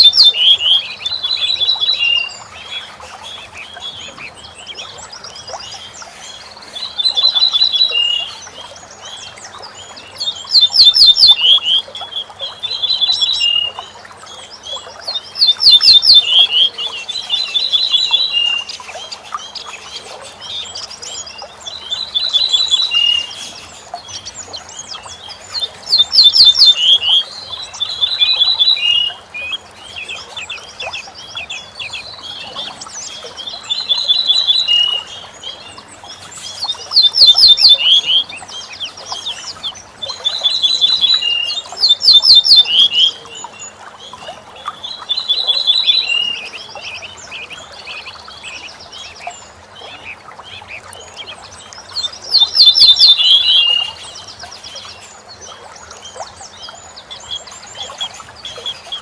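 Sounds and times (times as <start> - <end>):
bird singing trills: 0.0 - 59.0.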